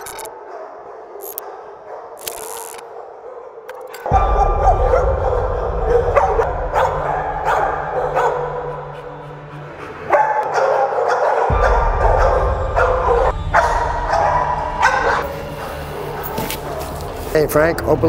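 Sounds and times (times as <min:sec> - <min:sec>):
dogs barking: 0:00.0 - 0:17.4.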